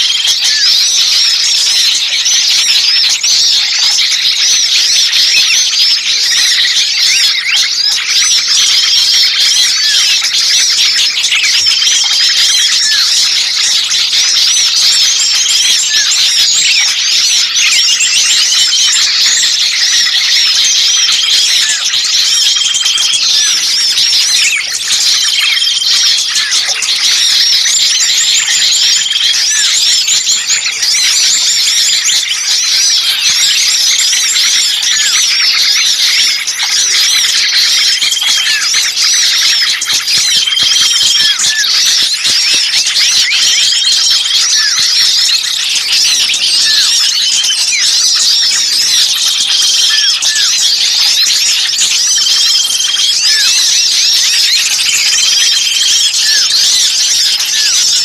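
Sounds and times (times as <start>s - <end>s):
songbirds chattering and calling: 0.0s - 58.0s.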